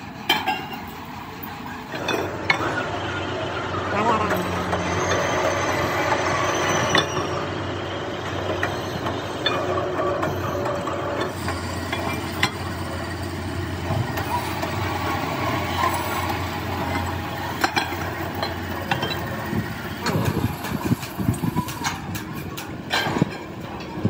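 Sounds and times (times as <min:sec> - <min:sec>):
pillar drill humming: 0:00.0 - 0:22.9.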